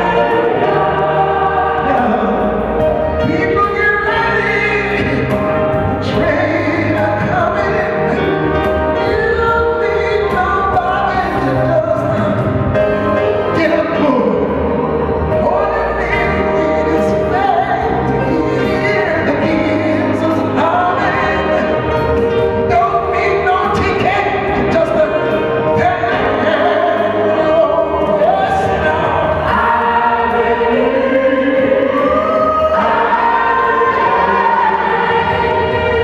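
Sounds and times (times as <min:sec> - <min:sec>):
gospel choir singing: 0:00.0 - 0:36.0
keyboard playing: 0:00.0 - 0:36.0
man singing into a microphone: 0:01.7 - 0:36.0.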